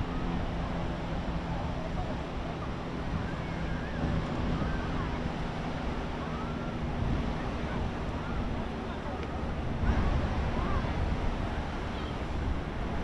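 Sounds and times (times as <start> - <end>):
ocean surf washing on beach: 0.0 - 13.0
wind rumbling on microphone: 0.0 - 13.0.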